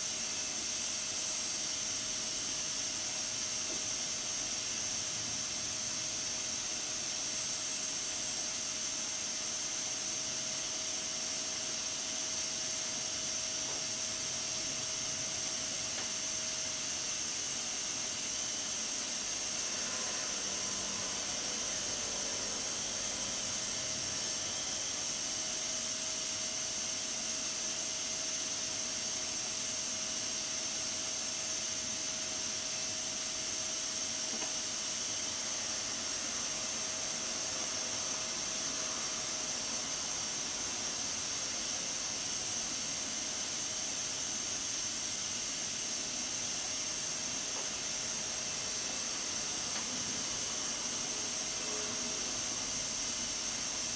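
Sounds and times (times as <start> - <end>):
pressure cooker steam hissing: 0.0 - 53.9.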